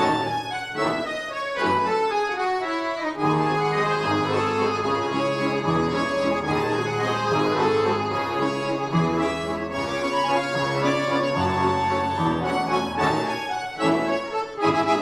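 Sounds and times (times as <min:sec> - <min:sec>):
button accordion orchestra playing: 0:00.0 - 0:15.0.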